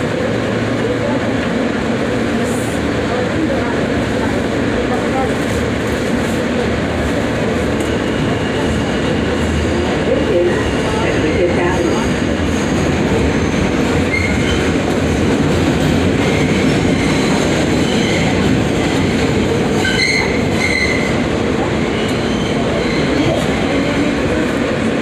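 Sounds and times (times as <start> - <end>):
subway train wheels rumbling on rails: 0.0 - 25.0.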